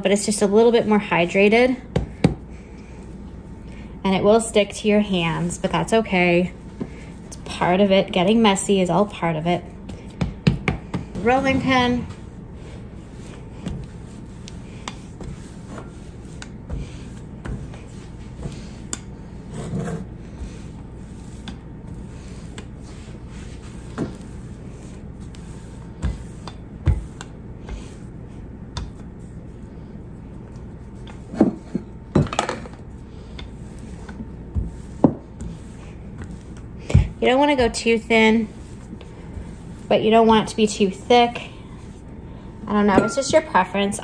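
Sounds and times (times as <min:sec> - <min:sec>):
rolling pin rolling over dough: 0:00.0 - 0:44.0.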